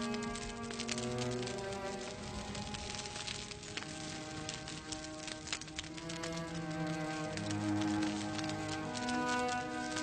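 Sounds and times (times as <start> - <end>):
slow violin music: 0.0 - 10.0
wood fire crackling: 0.0 - 10.0.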